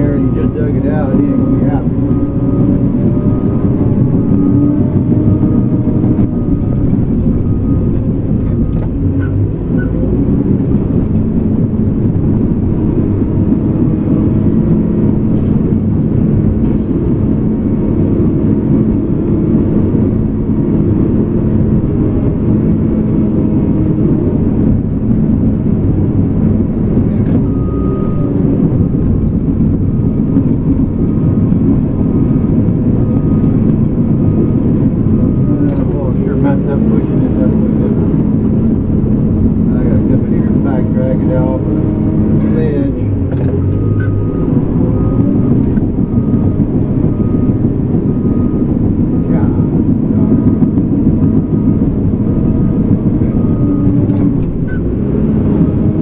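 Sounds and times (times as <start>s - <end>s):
diesel bulldozer engine under load: 0.0s - 56.0s.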